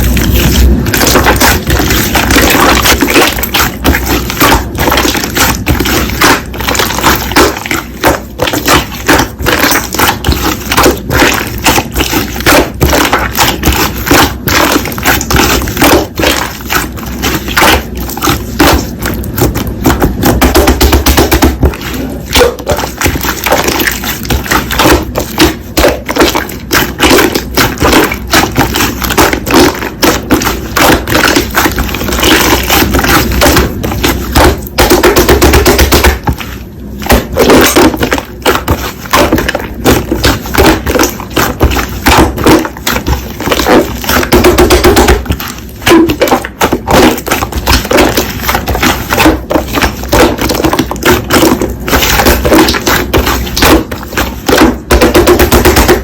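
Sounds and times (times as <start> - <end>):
slime crackling and popping: 0.0 - 56.0.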